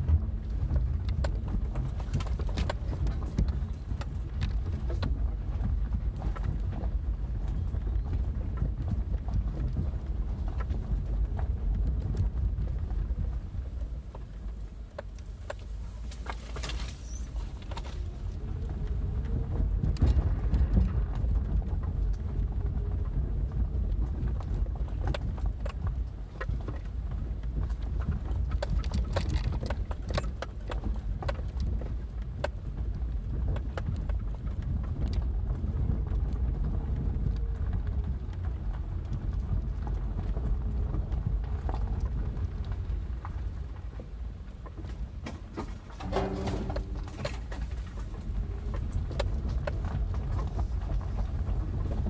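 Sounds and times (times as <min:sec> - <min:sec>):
gravel knocking under wheels: 0:00.0 - 0:52.0
tyres and suspension rumbling: 0:00.0 - 0:52.0.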